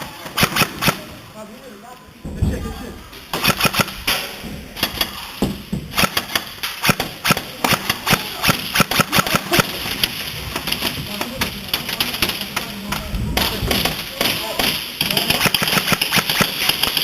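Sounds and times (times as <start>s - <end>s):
airsoft guns firing: 0.0s - 1.3s, 3.2s - 17.0s.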